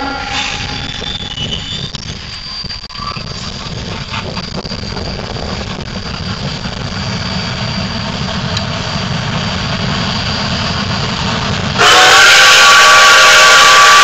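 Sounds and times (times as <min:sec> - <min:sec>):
steam locomotive exhaust chuffs: 0:00.0 - 0:14.0.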